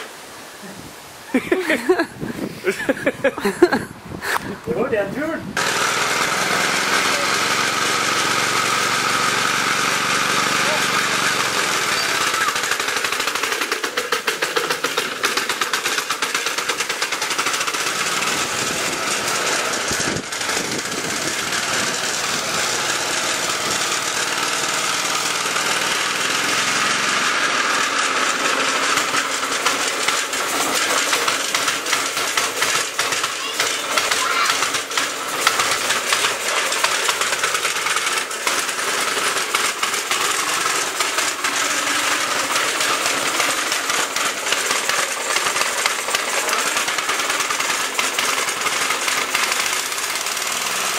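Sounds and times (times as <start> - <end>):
single-cylinder engine running: 4.4 - 50.9.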